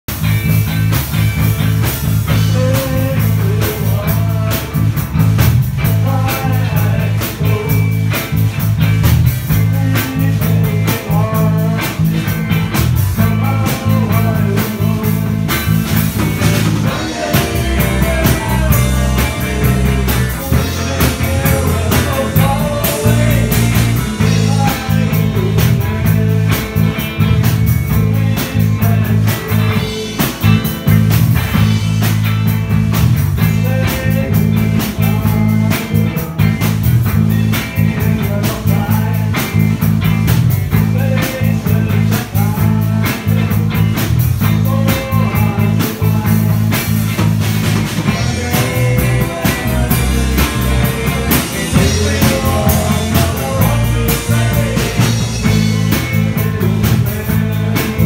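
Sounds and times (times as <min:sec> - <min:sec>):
bass and drums: 0:00.0 - 0:58.0
strummed electric guitar: 0:00.1 - 0:58.0
man singing into a microphone: 0:02.3 - 0:05.1, 0:05.8 - 0:08.4, 0:09.4 - 0:12.4, 0:13.0 - 0:30.6, 0:33.4 - 0:36.7, 0:37.3 - 0:39.9, 0:40.7 - 0:47.0, 0:48.0 - 0:58.0.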